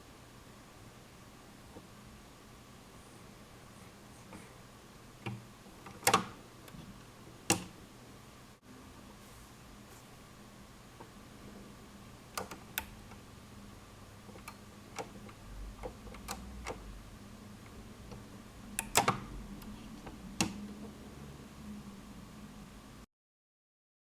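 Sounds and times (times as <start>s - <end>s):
faint steady hum: 0.0s - 23.1s.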